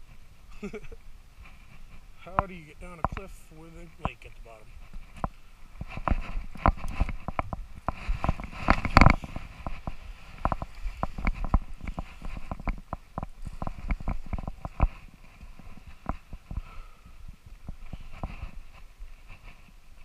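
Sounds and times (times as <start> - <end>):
footsteps crunching in snow: 1.4 - 20.0.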